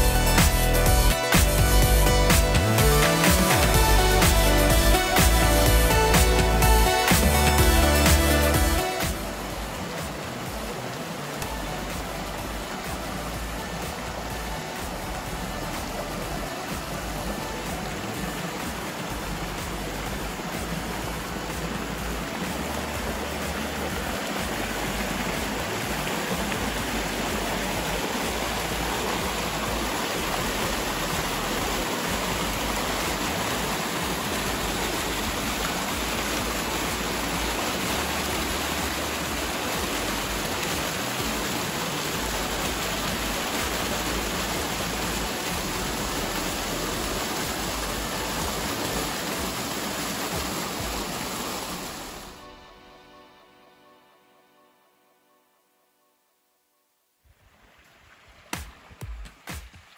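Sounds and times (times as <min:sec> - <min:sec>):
water rushing down cascade: 0:00.0 - 0:52.6, 0:57.3 - 0:59.9.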